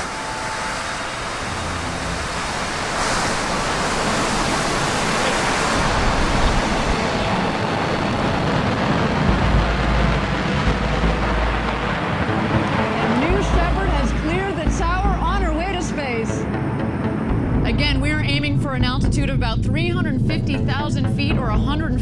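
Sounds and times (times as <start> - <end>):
heavy low rumble: 0.0 - 22.0
rocket engine roar: 0.0 - 22.0.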